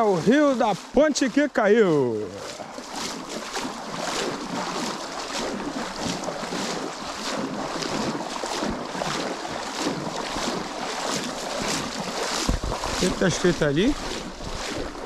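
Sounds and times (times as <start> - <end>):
legs wading through water: 0.0 - 15.0
steady wash of water: 0.0 - 15.0
water sloshing and splashing: 0.0 - 15.0.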